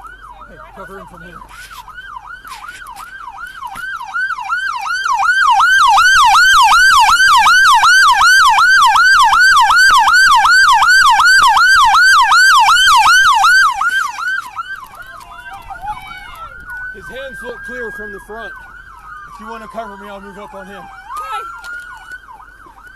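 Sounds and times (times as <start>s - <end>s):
police siren yelping: 0.0s - 22.9s.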